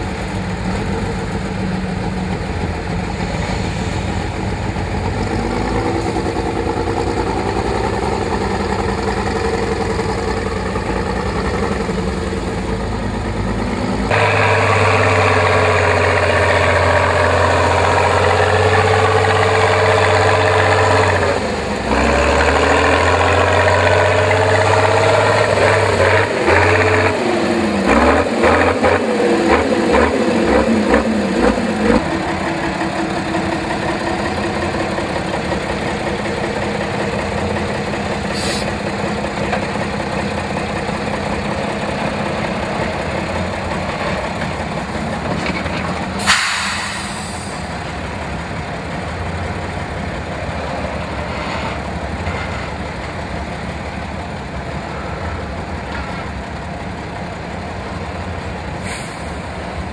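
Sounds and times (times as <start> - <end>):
truck engine working under load: 0.0 - 59.9.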